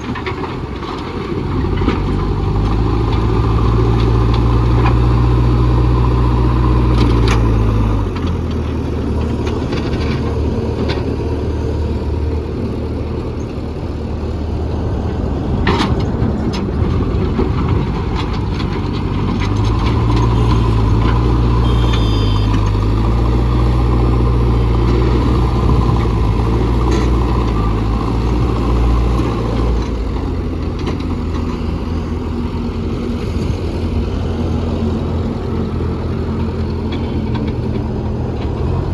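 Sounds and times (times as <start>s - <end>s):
diesel engine running under work: 0.0s - 38.9s.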